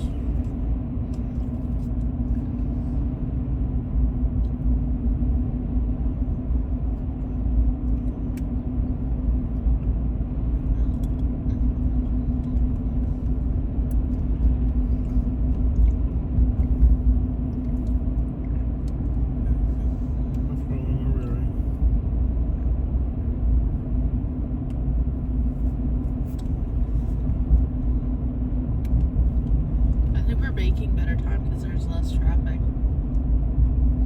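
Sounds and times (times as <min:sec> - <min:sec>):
car engine and tyres rumbling: 0:00.0 - 0:34.0.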